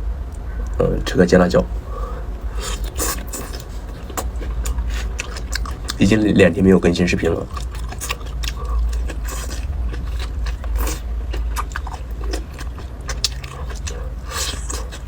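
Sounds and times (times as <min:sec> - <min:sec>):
person chewing and biting food: 0:01.8 - 0:06.2, 0:07.2 - 0:15.0.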